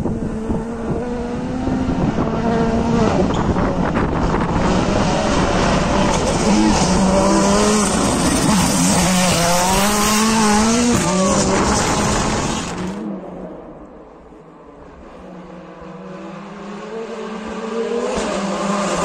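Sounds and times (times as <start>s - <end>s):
rally car engine revving hard: 0.0s - 13.0s, 15.6s - 19.0s
distant rally car engine: 0.0s - 19.0s.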